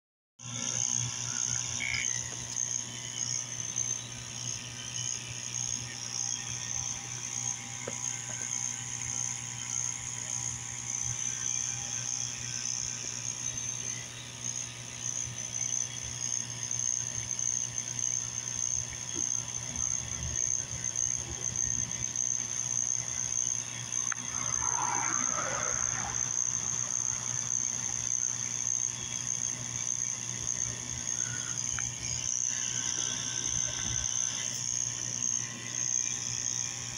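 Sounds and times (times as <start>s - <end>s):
water pump humming: 0.4s - 36.9s.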